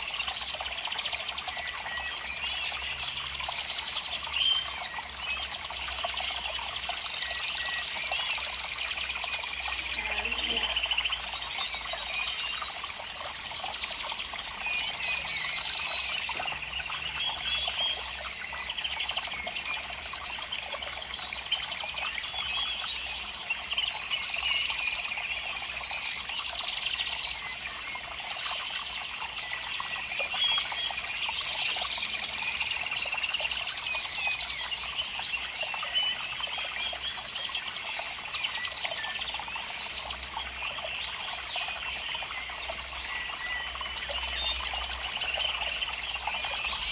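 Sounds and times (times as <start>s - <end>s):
small birds chirping and trilling: 0.0s - 46.9s.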